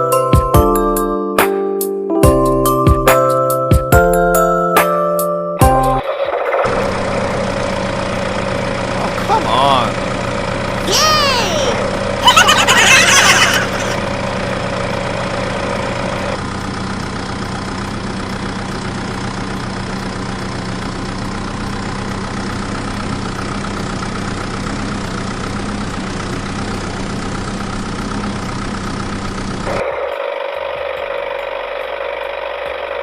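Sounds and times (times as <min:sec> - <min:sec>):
tractor engine idling: 0:06.1 - 0:33.0.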